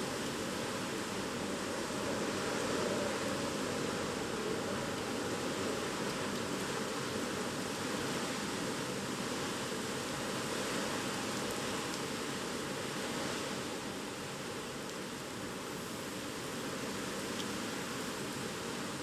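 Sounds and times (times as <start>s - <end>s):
wind and rain rushing: 0.0s - 19.0s.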